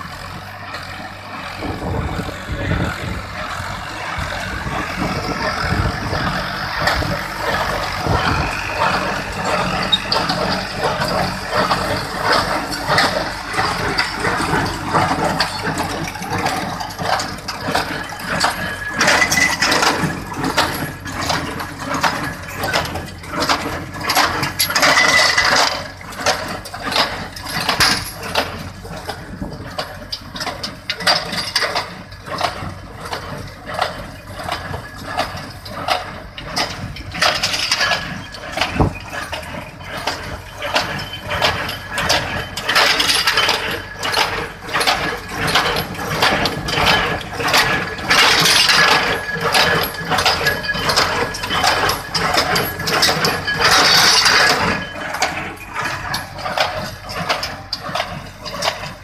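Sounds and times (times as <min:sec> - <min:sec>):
tractor engine running: 0:00.0 - 0:59.0
baler clattering: 0:00.1 - 0:59.0.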